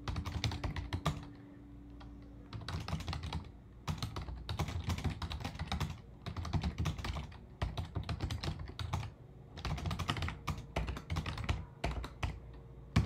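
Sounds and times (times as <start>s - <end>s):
typing on computer keyboard: 0.0s - 1.4s, 2.0s - 13.0s.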